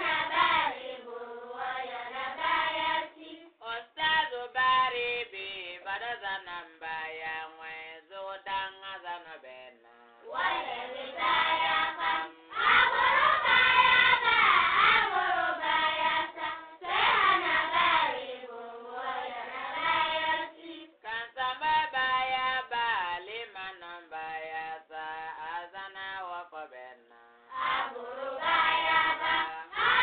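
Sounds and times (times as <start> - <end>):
voices singing with music: 0.0 - 8.9, 9.9 - 23.6, 27.2 - 30.0.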